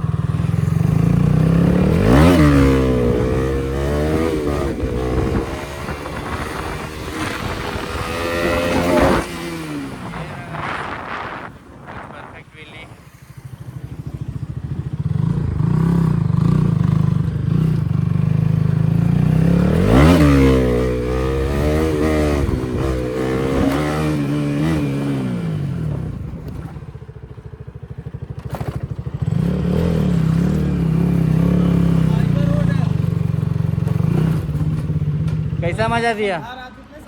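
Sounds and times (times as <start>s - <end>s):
motorcycle engine revving: 0.0s - 36.5s.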